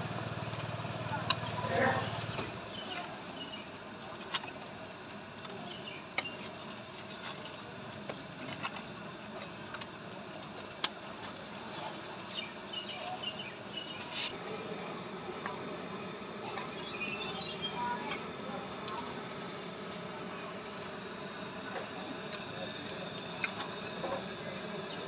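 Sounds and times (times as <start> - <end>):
street market din: 0.0 - 25.0.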